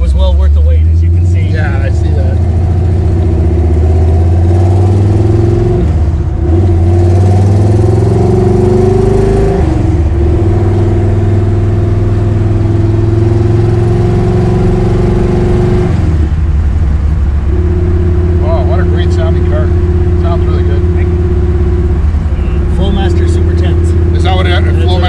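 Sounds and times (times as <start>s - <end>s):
car engine revving through gears: 0.0s - 25.0s.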